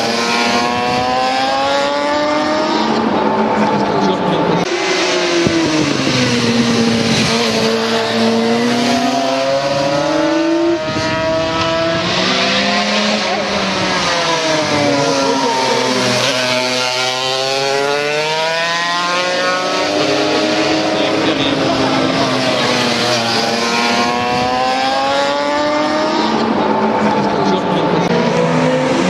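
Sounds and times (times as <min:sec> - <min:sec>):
motorcycle engines revving hard: 0:00.0 - 0:29.0.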